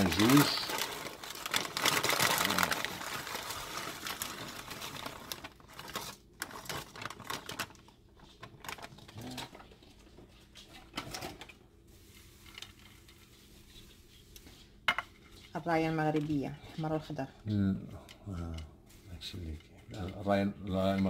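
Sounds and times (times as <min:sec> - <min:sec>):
frozen vegetables pattering into dish: 0:00.0 - 0:16.9.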